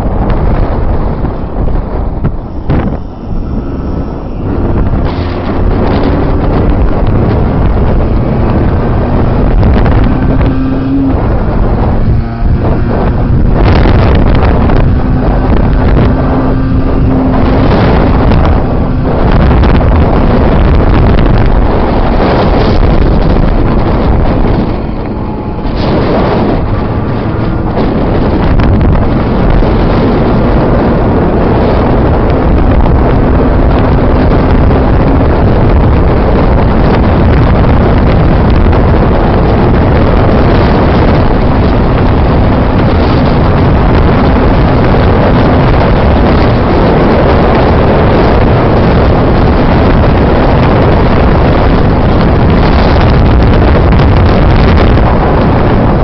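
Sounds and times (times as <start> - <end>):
engine humming: 0.0 - 56.0
wind rushing over microphone: 0.0 - 56.0.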